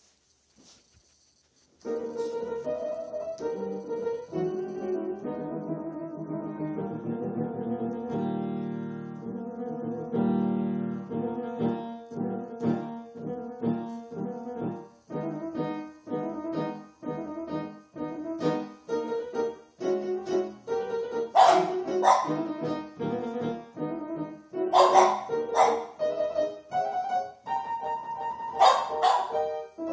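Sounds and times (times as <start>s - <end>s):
piano chords: 1.8s - 29.9s.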